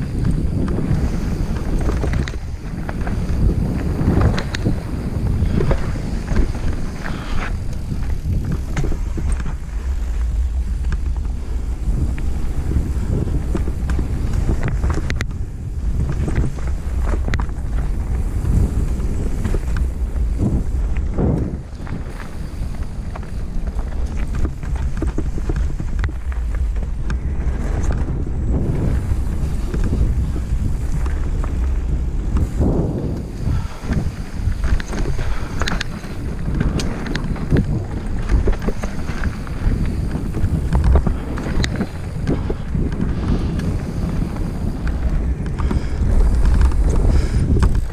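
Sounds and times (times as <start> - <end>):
bike clattering over bumps: 0.0 - 47.9
tyres on dirt: 0.0 - 47.9
wind buffeting microphone: 0.0 - 47.9.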